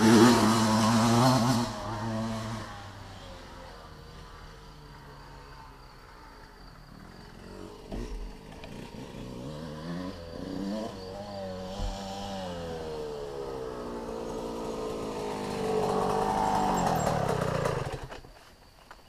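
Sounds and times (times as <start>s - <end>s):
motocross bike engine revving: 0.0s - 5.0s, 6.9s - 18.2s.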